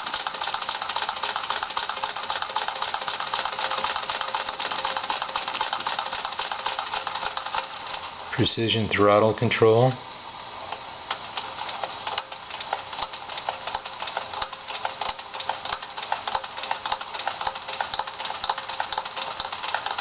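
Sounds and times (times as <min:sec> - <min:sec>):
toy steam engine ticking: 0:00.0 - 0:08.1, 0:11.1 - 0:20.0.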